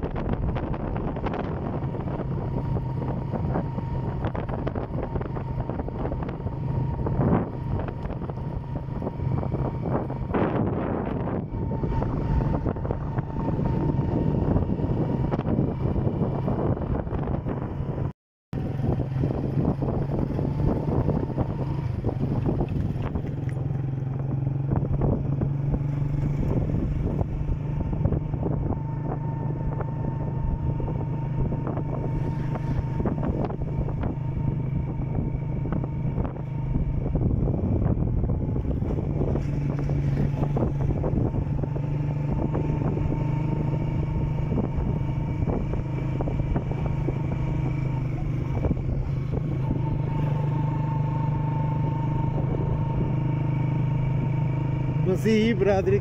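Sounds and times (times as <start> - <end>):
small motorcycle engine cruising: 0.0 - 56.0.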